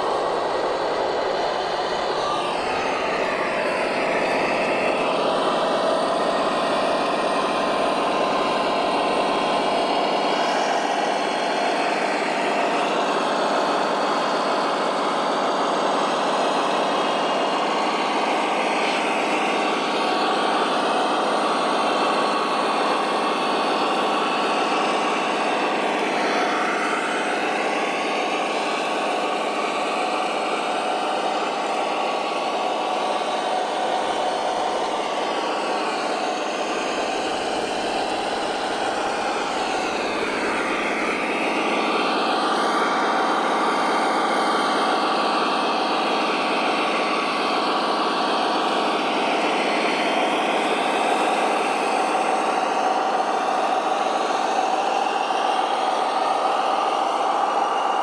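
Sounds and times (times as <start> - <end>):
motor whine: 0.0 - 58.0
toy vehicle engine drone: 0.0 - 58.0.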